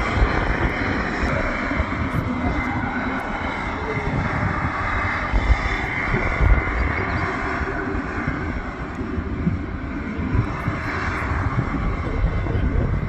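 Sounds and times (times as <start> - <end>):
jet turbine noise: 0.0 - 13.0
wind buffeting microphone: 0.0 - 13.0.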